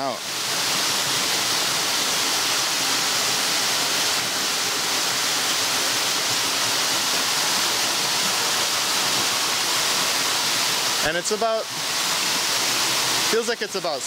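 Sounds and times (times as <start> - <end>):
waterfall hiss: 0.0 - 14.0.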